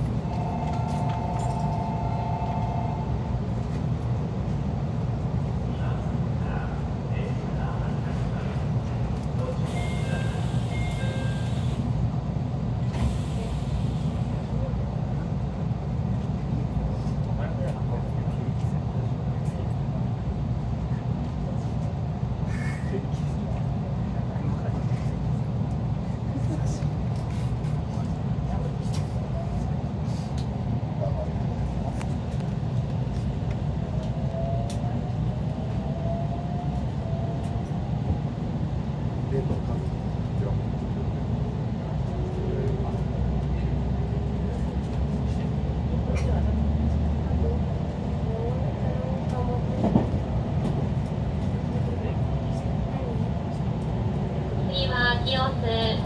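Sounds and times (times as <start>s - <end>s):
train carriage rumble: 0.0s - 56.0s.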